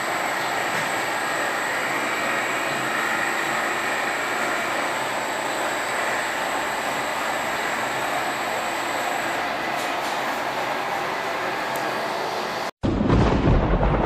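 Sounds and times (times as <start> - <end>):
machine running with whine: 0.0 - 12.7.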